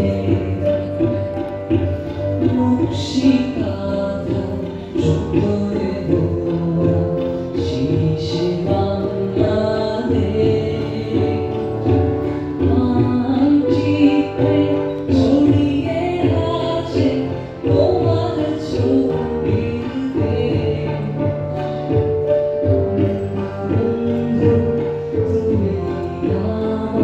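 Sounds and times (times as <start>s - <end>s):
song with held sung notes: 0.0s - 27.0s.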